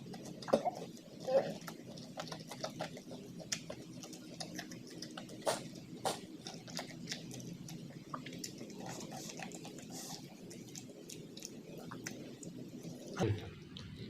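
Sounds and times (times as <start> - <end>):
low background hum: 0.0 - 14.0
person chewing food: 0.0 - 14.0.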